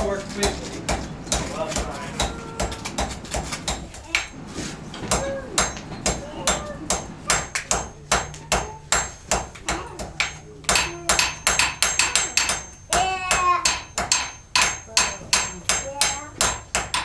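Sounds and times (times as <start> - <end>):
hammer striking anvil: 0.0 - 4.4, 5.0 - 17.0.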